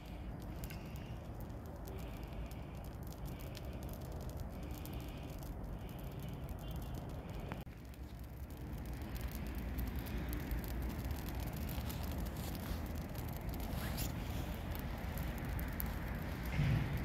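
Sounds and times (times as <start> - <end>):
brush fire crackling and popping: 0.0 - 17.0
low fire rumble: 0.0 - 17.0.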